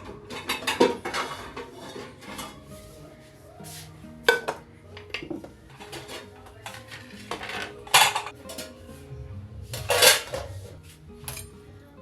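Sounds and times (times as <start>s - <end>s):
dishes and cutlery clinking: 0.0s - 3.0s, 3.7s - 9.1s, 9.7s - 11.6s.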